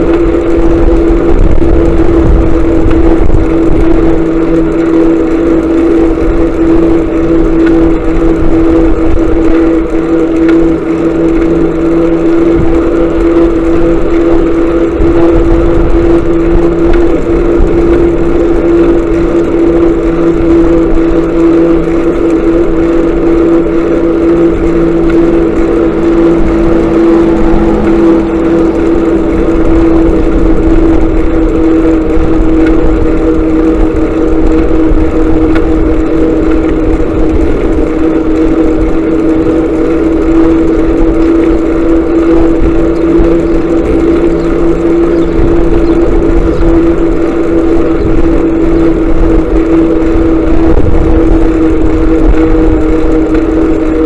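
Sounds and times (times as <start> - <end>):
motorcycle engine humming: 0.0 - 54.0
road noise: 0.0 - 54.0
wind rumble: 0.0 - 54.0.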